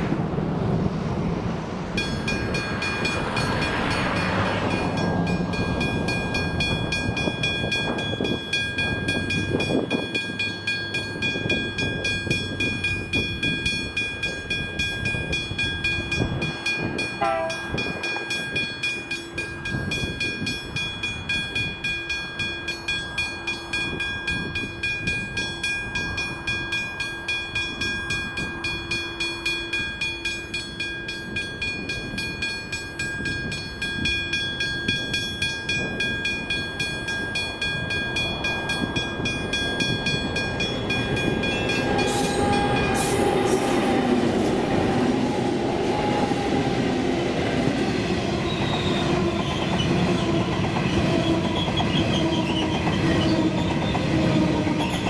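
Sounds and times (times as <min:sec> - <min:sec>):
diesel locomotives passing: 0:00.0 - 0:55.0
rattle of freight wagons: 0:00.0 - 0:55.0
crossing warning bell ringing: 0:01.9 - 0:55.0.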